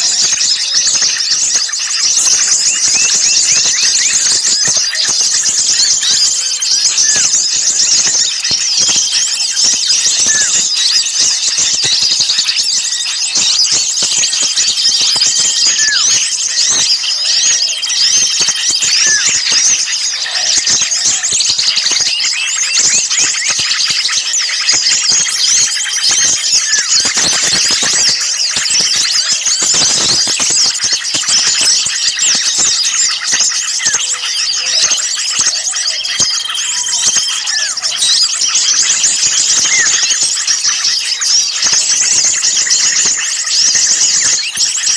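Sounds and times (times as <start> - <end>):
songbirds chattering and calling: 0.0 - 44.9.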